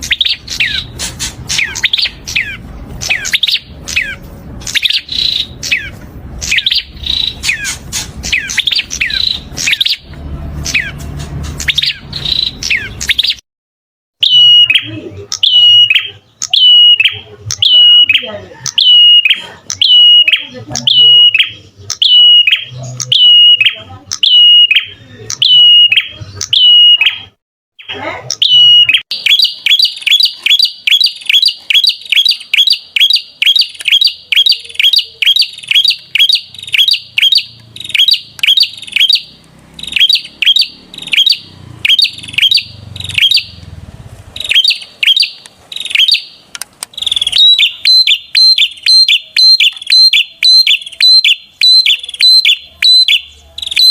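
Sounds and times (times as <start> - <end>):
bird singing repeated notes: 0.0 - 13.4, 14.2 - 53.9.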